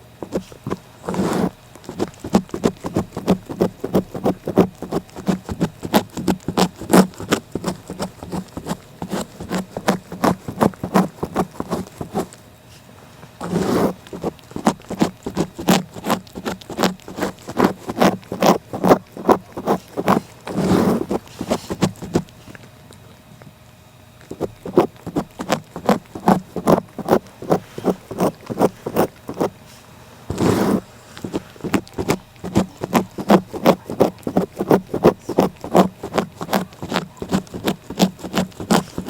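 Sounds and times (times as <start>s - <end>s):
cat licking: 0.0s - 12.4s, 13.4s - 23.6s, 24.2s - 29.7s, 30.3s - 39.0s.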